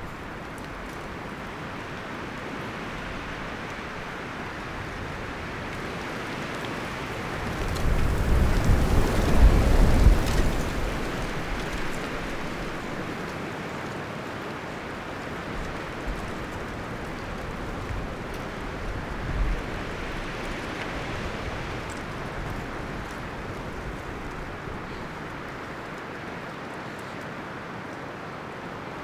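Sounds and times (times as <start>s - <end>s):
wind rustling leaves: 0.0s - 29.0s.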